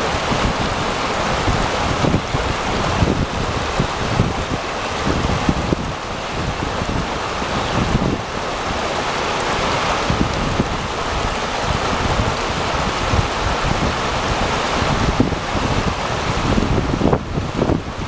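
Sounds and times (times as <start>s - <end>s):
river rushing over rocks: 0.0s - 18.0s
wind buffeting microphone: 0.0s - 18.0s.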